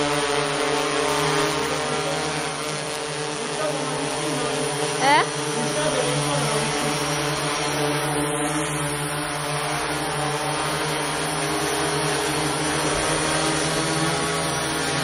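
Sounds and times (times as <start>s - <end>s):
multicopter motors humming: 0.0s - 15.0s.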